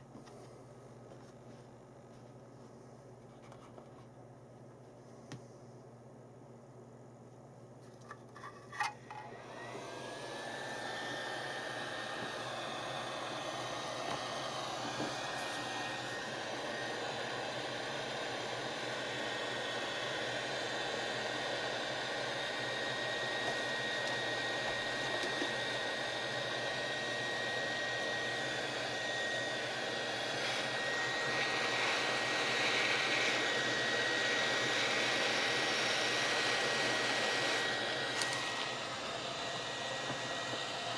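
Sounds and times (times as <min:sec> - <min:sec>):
hot-air blower hiss and whine: 0:00.0 - 0:40.9.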